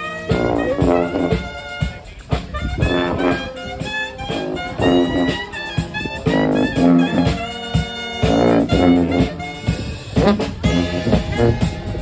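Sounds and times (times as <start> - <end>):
brass band playing jazz: 0.0 - 12.0
drum beat: 0.0 - 12.0.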